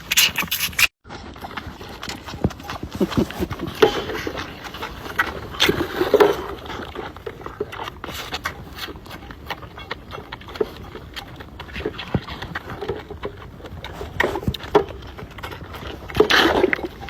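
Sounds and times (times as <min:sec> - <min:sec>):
animals moving about: 0:00.0 - 0:17.0.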